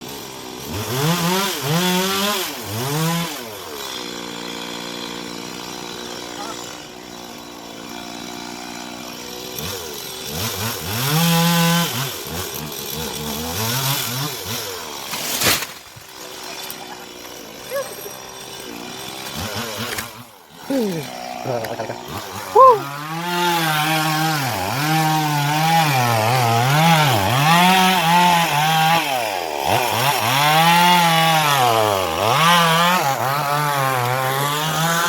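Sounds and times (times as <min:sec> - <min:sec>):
chainsaw revving: 0:00.0 - 0:35.0.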